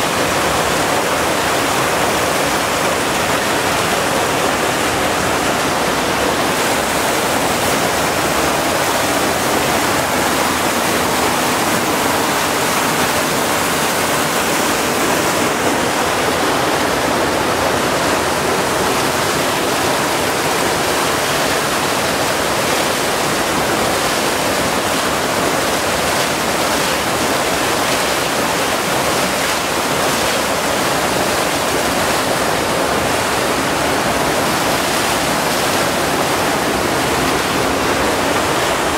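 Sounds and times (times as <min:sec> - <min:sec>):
rushing water churning: 0:00.0 - 0:38.9.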